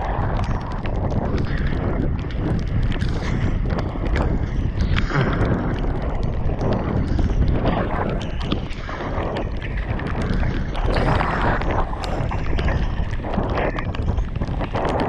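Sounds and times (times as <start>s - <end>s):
bike clicks and rattles: 0.0s - 15.0s
bike tyres on mud: 0.0s - 15.0s
wind buffeting microphone: 0.0s - 15.0s.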